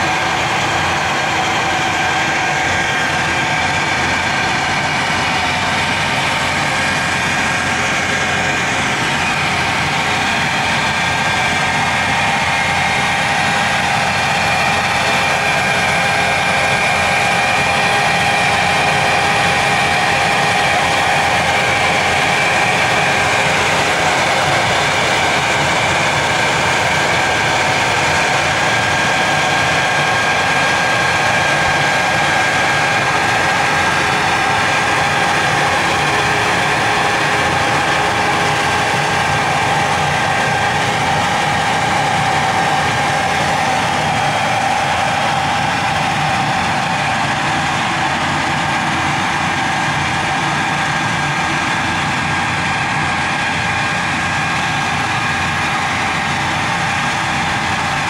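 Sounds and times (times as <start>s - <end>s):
constant whine: 0.0s - 58.0s
machine running: 0.0s - 58.0s.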